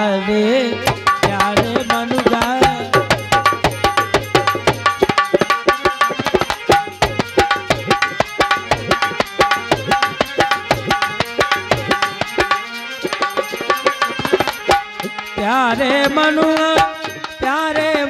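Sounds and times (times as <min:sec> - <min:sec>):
repeating folk melody: 0:00.0 - 0:18.0
hand drum rhythm: 0:00.8 - 0:18.0.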